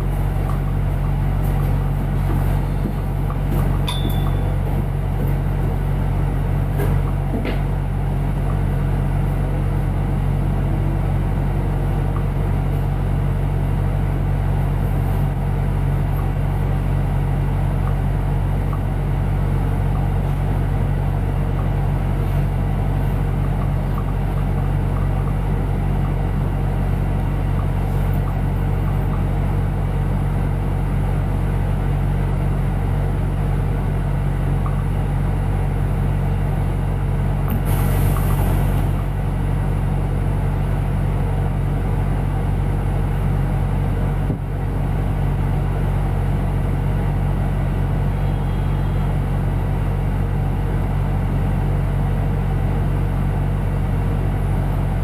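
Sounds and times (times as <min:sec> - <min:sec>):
bus engine idling: 0:00.0 - 0:55.0.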